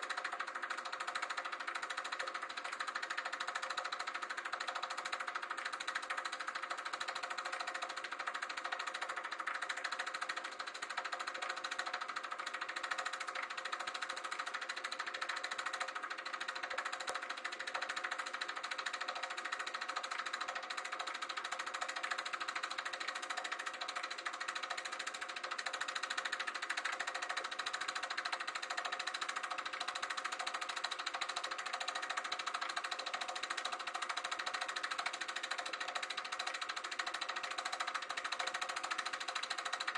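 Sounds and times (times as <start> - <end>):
projector mechanical clatter: 0.0 - 39.9.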